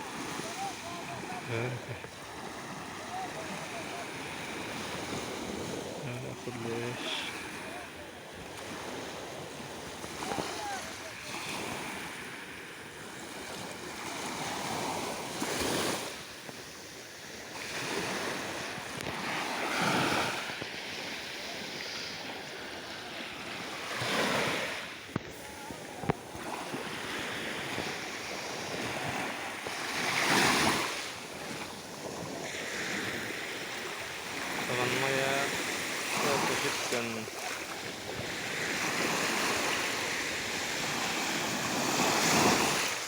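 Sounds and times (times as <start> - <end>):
small waves washing ashore: 0.0 - 43.0.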